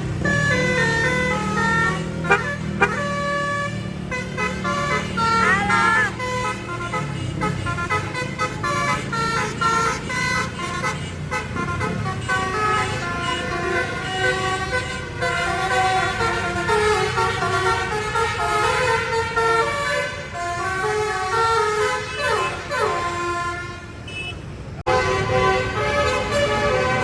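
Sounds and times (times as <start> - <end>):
bus engines running: 0.0 - 27.0
multi-tone bus horns melody: 0.0 - 27.0.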